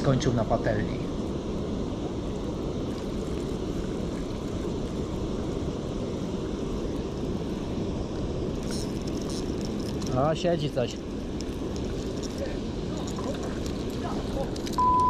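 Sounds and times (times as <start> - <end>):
water pouring over weir: 2.2 - 14.8.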